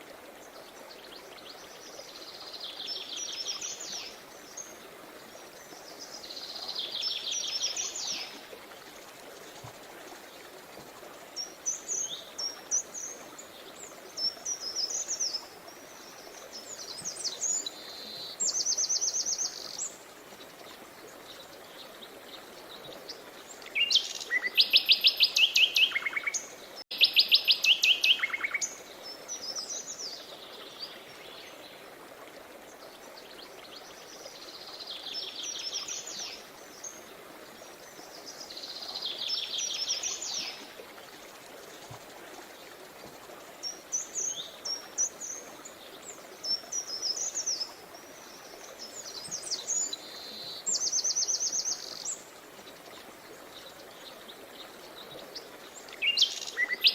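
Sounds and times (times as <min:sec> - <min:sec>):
songbirds singing: 0:00.4 - 0:08.5, 0:11.4 - 0:32.0, 0:32.7 - 0:56.9.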